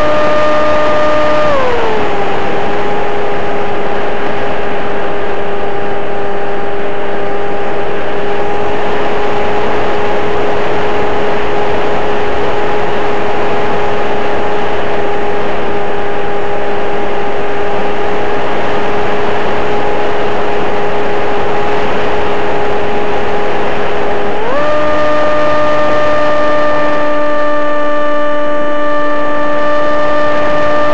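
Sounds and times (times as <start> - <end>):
electric motor and propeller whine: 0.0 - 30.9
wind rush: 0.0 - 30.9.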